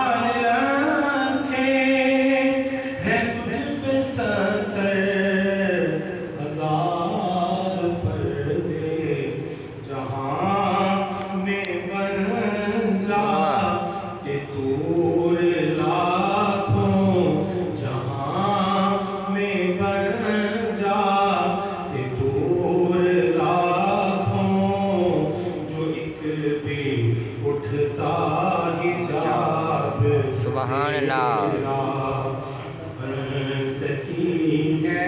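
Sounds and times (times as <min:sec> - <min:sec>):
man chanting without instruments: 0:00.0 - 0:35.0.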